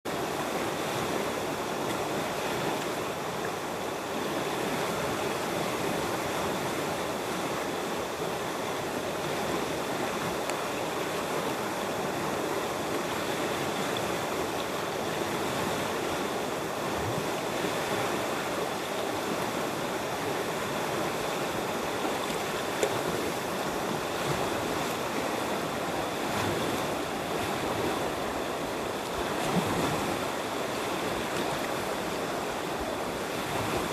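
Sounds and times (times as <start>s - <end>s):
river flowing: 0.1s - 33.9s.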